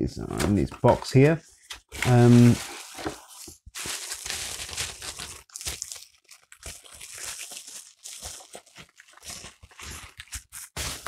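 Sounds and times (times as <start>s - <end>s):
plastic packaging crinkling: 1.8s - 11.0s.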